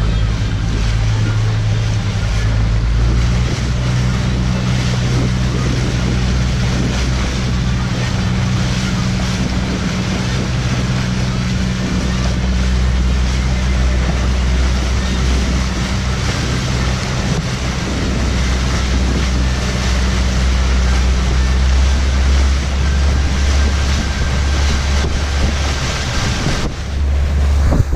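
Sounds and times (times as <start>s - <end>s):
boat engine humming: 0.0s - 27.9s
rushing water: 0.0s - 27.9s
wind buffeting microphone: 0.0s - 27.9s.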